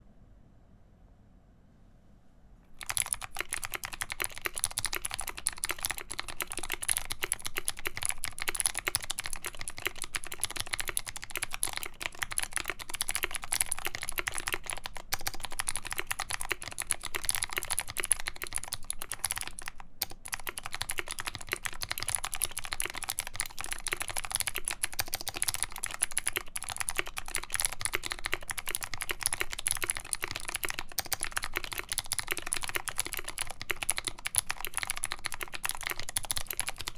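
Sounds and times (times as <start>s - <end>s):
fast mechanical keyboard typing: 2.8s - 36.9s.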